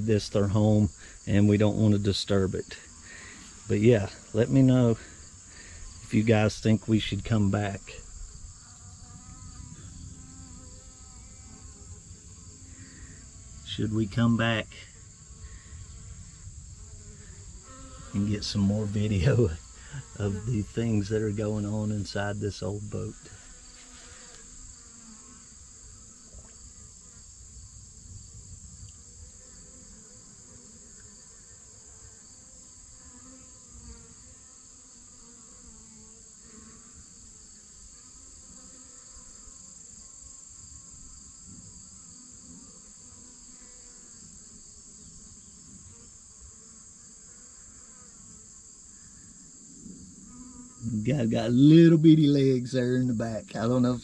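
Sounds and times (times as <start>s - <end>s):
high-pitched insect trill: 0.2s - 22.0s, 23.1s - 54.0s.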